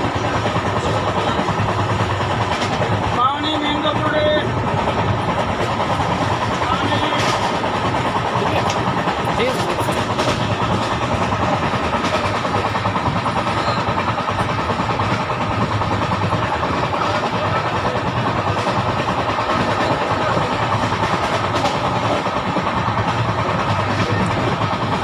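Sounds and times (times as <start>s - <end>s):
train carriage rumble and rattle: 0.0s - 25.0s.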